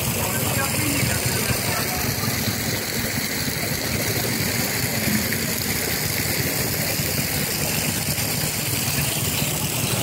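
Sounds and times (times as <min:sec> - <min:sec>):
scooter engine idling: 0:00.0 - 0:10.0.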